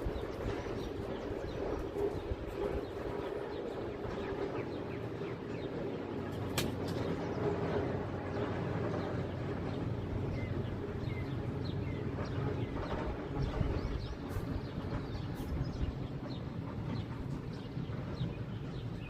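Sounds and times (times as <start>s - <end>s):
locomotive engine droning: 0.0s - 19.0s.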